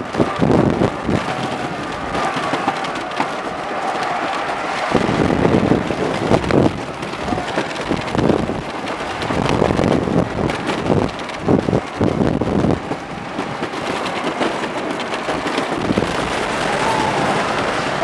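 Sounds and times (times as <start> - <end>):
roller coaster rumbling and clattering: 0.0 - 18.0.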